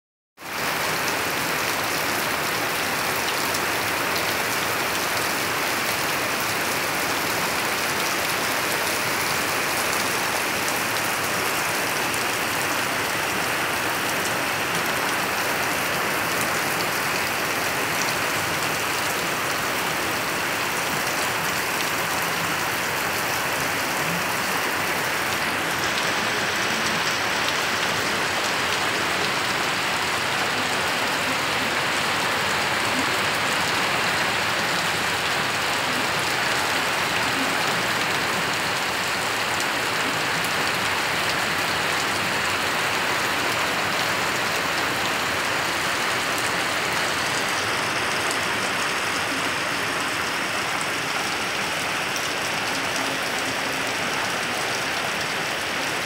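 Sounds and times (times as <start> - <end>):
heavy rain on leaves: 0.4 - 56.0.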